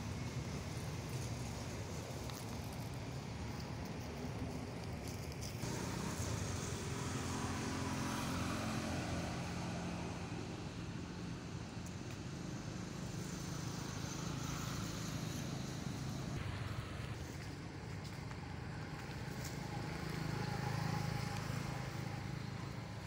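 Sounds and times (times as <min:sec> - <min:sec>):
traffic noise: 0:00.0 - 0:23.0
vehicle engine humming: 0:00.0 - 0:23.0.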